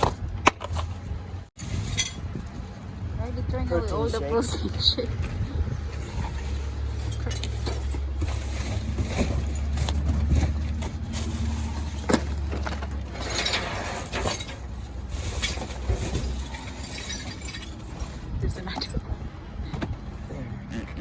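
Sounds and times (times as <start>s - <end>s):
rustling and scraping: 0.0s - 21.0s
steady low rumble: 0.0s - 21.0s.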